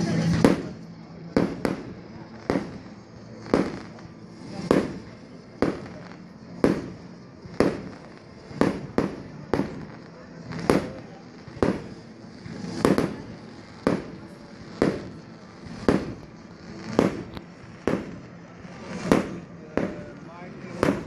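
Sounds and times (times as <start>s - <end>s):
fireworks bursting with echo: 0.0s - 21.0s.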